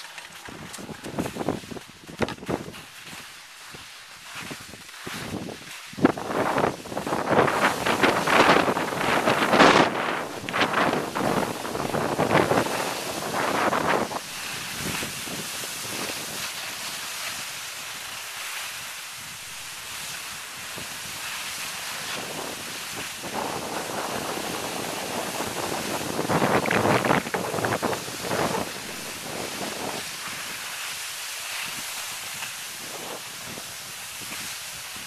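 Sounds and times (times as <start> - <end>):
wind rushing over microphone: 0.0 - 3.2, 4.4 - 17.5, 19.2 - 35.0
skis hissing on snow: 0.0 - 35.0.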